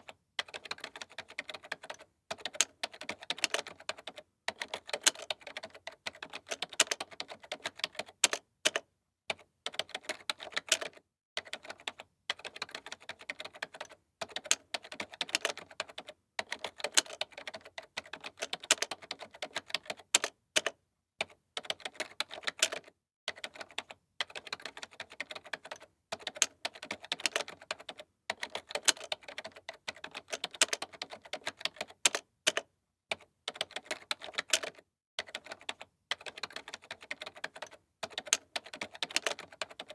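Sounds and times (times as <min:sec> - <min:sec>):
keyboard typing clicks: 0:00.4 - 0:15.8, 0:16.4 - 0:20.7, 0:21.7 - 0:39.9.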